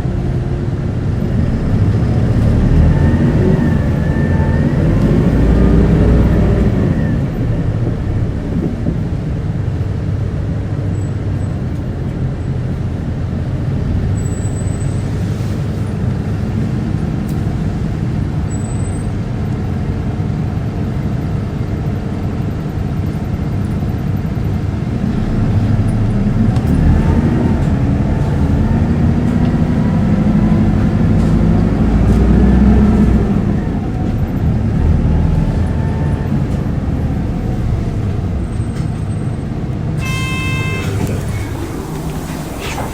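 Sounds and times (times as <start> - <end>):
bus engine running: 0.0 - 42.9
road rumble: 0.0 - 42.9.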